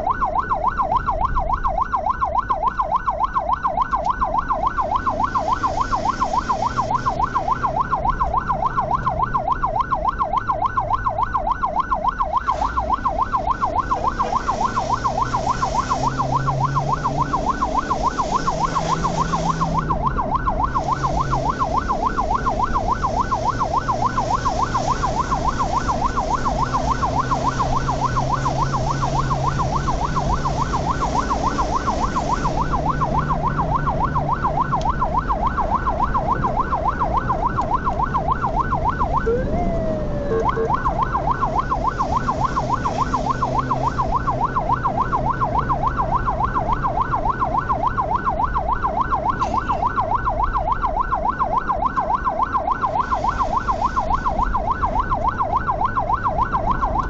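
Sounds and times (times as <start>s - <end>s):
siren yelping: 0.0s - 57.0s
vehicle engine and road noise: 0.0s - 57.0s.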